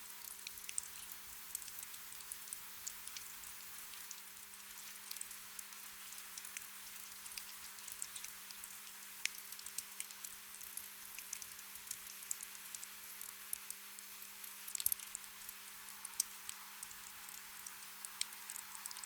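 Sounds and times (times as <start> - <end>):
gentle rain pattering: 0.0 - 19.0.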